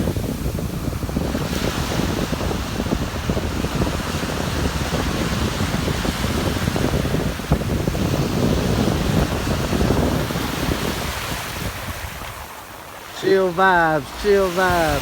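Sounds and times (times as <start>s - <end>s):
ocean surf on beach: 0.0s - 15.0s
wind buffeting microphone: 0.0s - 15.0s.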